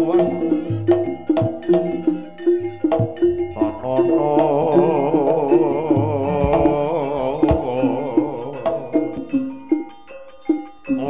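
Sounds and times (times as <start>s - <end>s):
drum strokes: 0.0s - 9.9s
struck metallophone notes: 0.0s - 11.0s
wavering melody with vibrato: 0.0s - 11.0s.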